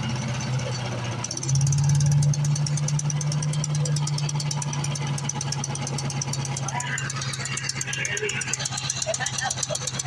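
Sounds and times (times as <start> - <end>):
gas engine running: 0.0 - 10.0.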